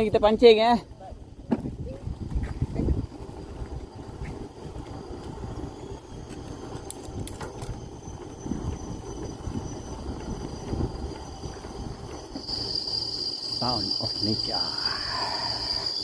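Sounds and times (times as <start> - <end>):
high-pitched insect calls: 1.9 - 16.0.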